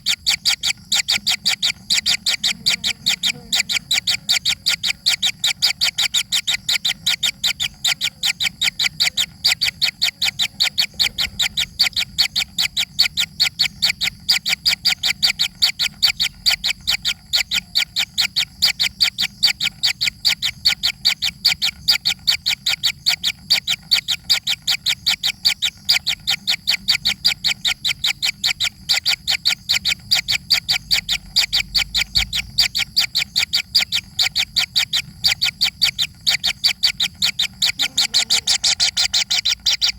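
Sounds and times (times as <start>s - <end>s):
young bird begging calls: 0.0s - 39.9s.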